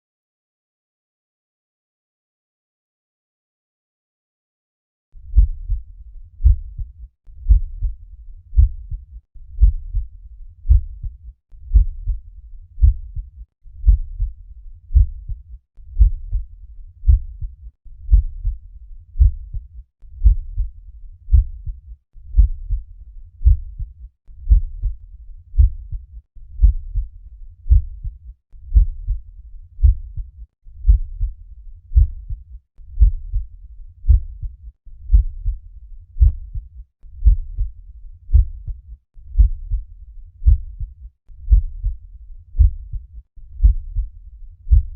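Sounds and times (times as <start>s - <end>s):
heartbeat through stethoscope: 5.2s - 18.6s, 19.2s - 44.9s.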